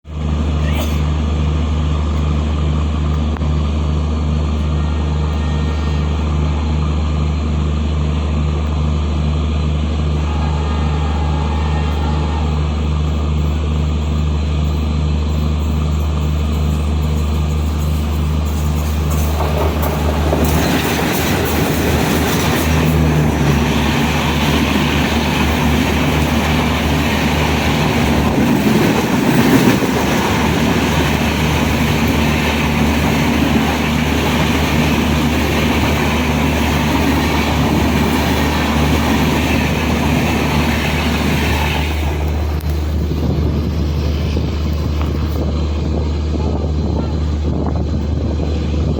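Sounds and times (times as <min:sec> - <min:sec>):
train wheels running over rails: 0:00.2 - 0:48.9.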